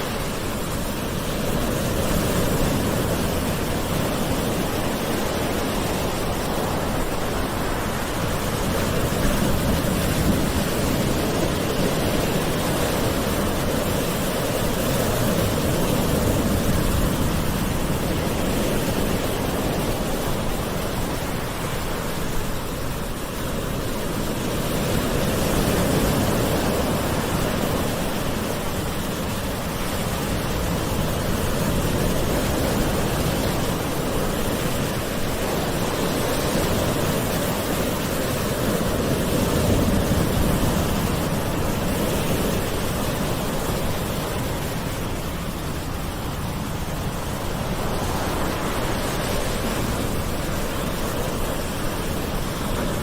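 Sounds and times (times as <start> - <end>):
gentle ocean waves on shore: 0.0 - 53.0.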